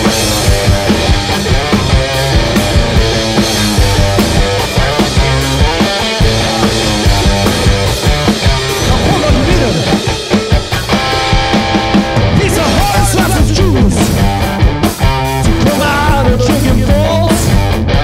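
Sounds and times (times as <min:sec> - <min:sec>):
distorted electric guitar: 0:00.0 - 0:18.0
driving drum kit: 0:00.0 - 0:18.0.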